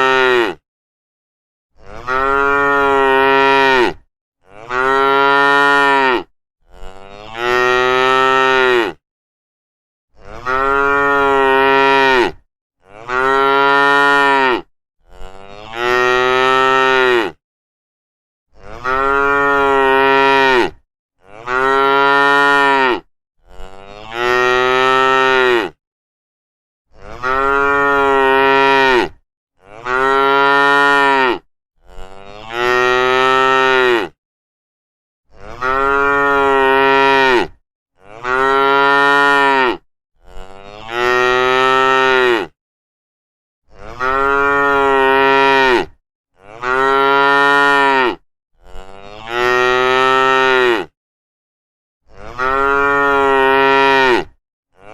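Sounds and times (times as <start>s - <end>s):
cow mooing: 0.0s - 0.6s, 1.8s - 9.0s, 10.2s - 17.4s, 18.5s - 25.8s, 27.0s - 34.2s, 35.3s - 42.6s, 43.7s - 51.0s, 52.1s - 54.9s.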